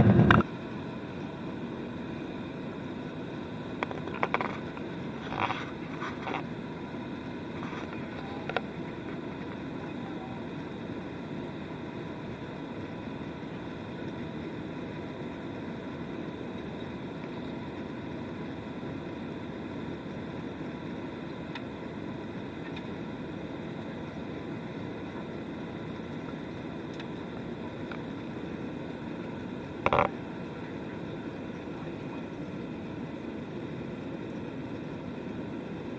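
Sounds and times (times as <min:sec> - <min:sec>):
airliner cabin engine drone: 0:00.0 - 0:35.9.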